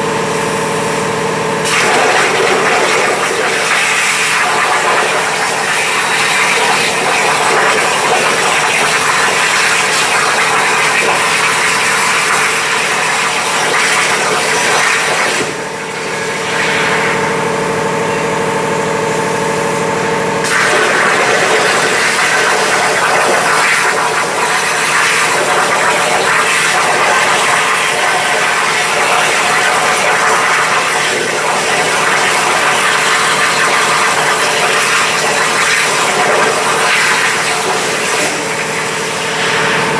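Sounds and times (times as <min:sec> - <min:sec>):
steady machine hum: 0:00.0 - 0:39.9
plasma arc hissing: 0:01.6 - 0:15.6, 0:20.4 - 0:39.9.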